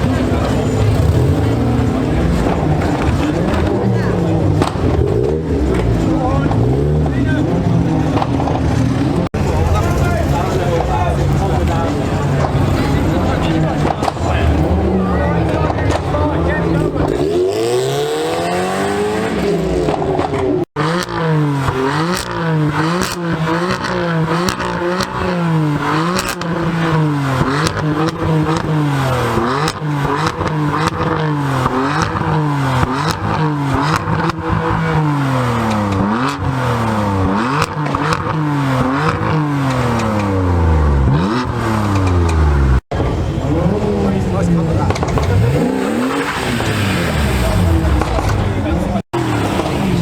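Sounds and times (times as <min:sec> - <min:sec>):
car engine revving: 0:00.0 - 0:50.0
exhaust crackling: 0:00.0 - 0:50.0.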